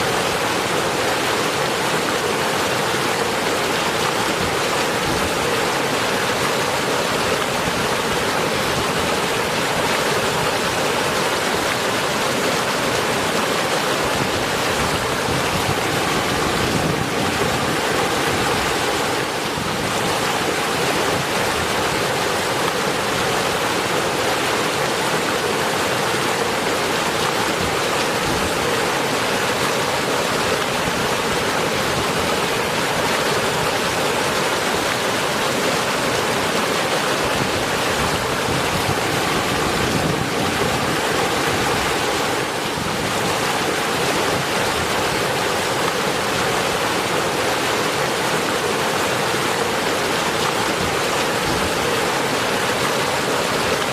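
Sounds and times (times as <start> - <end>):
steady rain: 0.0 - 53.9.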